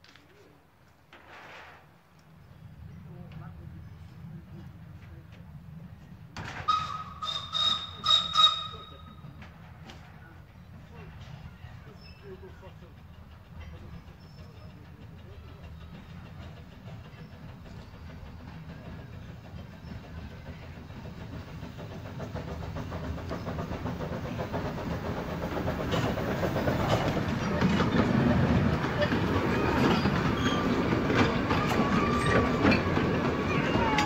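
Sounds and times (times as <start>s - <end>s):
steam train running: 2.1s - 34.0s
rail clatter: 6.3s - 34.0s.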